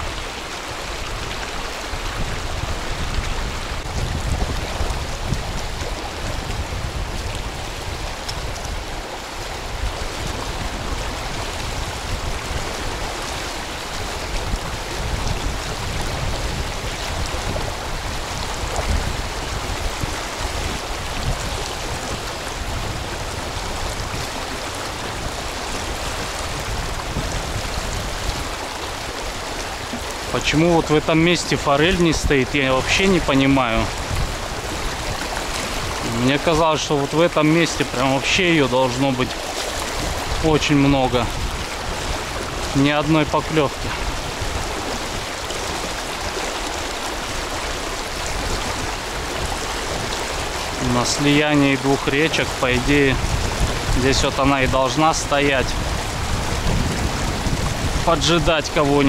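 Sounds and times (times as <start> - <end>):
fast river rushing: 0.0 - 59.0.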